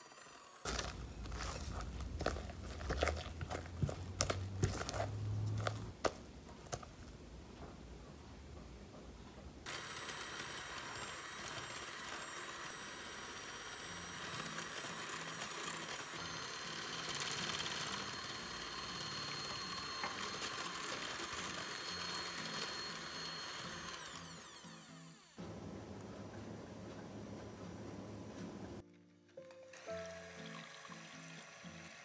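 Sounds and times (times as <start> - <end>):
electric hand mixer whining: 0.0 - 5.9, 9.6 - 28.8, 29.7 - 32.0.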